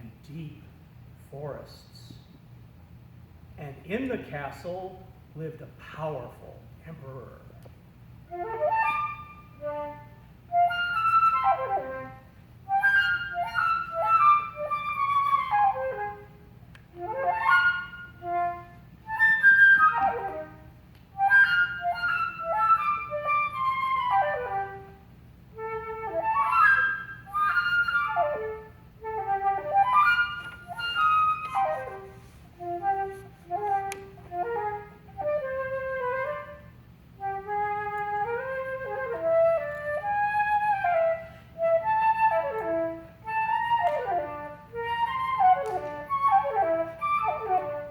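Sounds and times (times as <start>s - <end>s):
solo flute playing: 8.3s - 47.9s.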